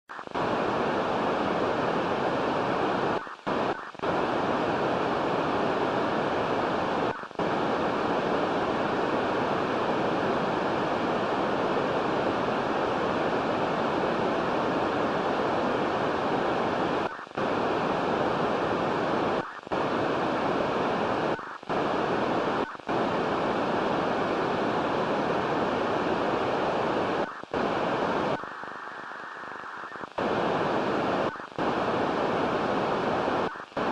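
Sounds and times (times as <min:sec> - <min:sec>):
radio receiver hiss: 0:00.1 - 0:33.9.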